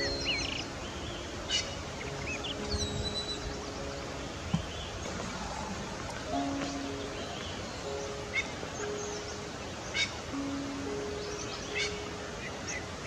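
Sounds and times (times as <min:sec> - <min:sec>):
small birds chirping and whistling: 0:00.0 - 0:12.9
soft sustained music notes: 0:00.0 - 0:13.0
steady outdoor hiss: 0:00.0 - 0:13.0.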